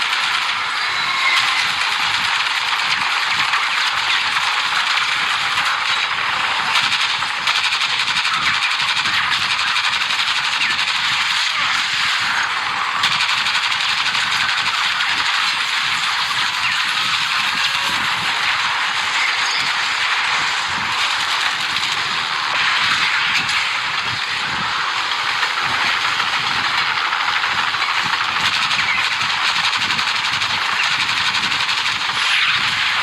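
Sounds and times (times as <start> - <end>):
machine-gun fire: 0.0 - 33.0.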